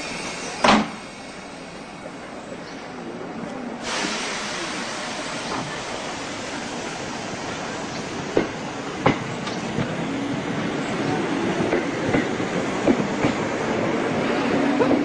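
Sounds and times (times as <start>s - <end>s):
train rushing hiss: 0.0s - 15.0s.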